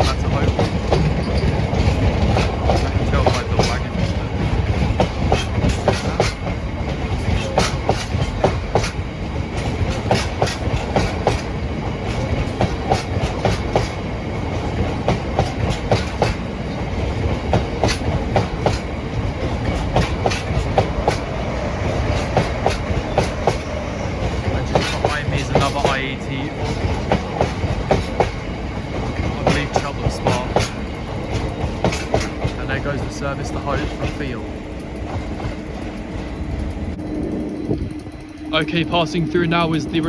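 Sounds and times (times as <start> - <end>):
wheels clicking over rail joints: 0.0 - 38.6
freight train wagons rolling: 0.0 - 40.0.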